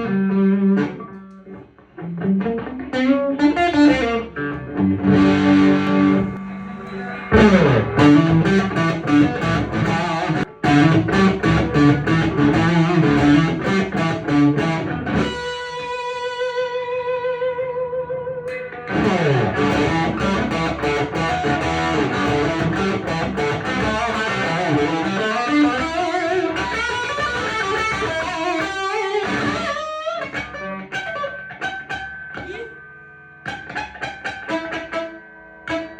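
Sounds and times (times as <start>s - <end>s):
electric guitar through amplifier: 0.0s - 35.9s.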